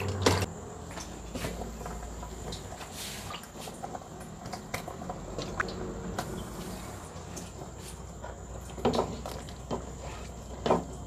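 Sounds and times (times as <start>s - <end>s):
soup boiling in a pot: 0.0s - 11.0s.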